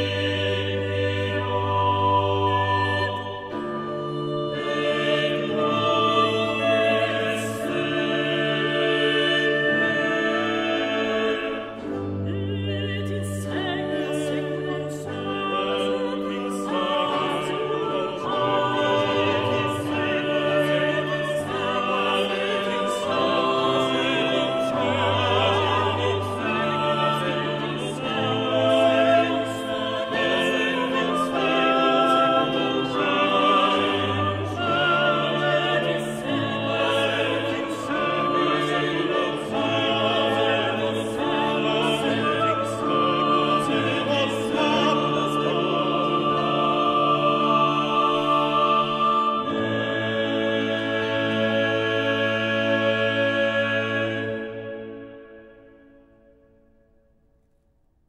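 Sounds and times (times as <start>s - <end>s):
operatic singing: 0.0s - 56.4s.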